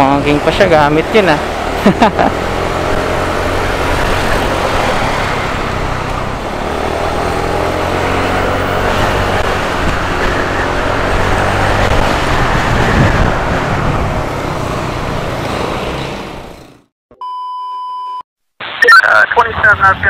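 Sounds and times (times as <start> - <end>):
wind and road noise: 0.0 - 16.9.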